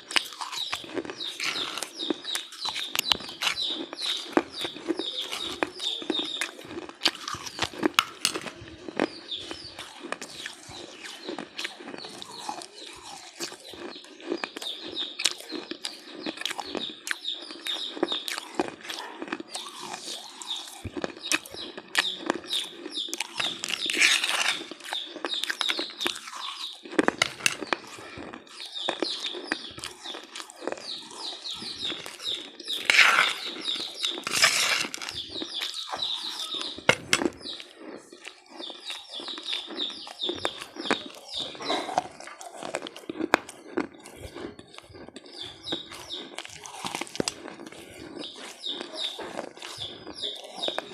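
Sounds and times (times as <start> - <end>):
person chewing crunchy snack: 0.0 - 50.9.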